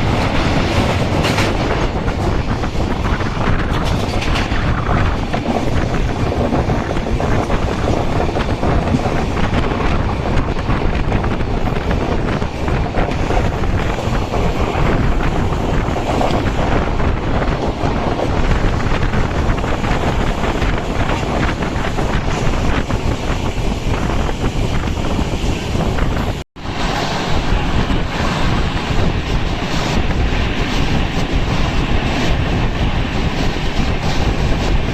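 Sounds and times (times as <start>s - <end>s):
passenger train running at speed: 0.0s - 34.9s
wind buffeting microphone: 0.0s - 34.9s.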